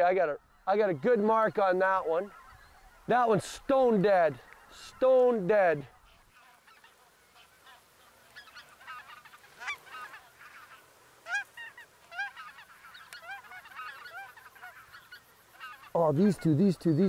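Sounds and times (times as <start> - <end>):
geese yelping calls: 0.0 - 17.0.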